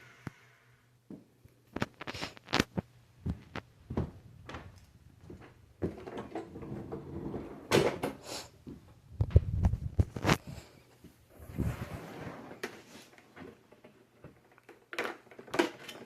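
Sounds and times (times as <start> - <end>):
rustling and scraping: 1.7 - 8.1, 9.2 - 16.0.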